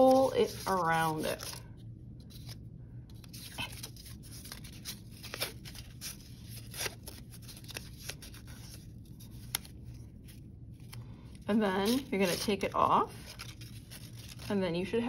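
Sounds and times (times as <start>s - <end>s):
paper rustling and crinkling: 0.0s - 14.9s.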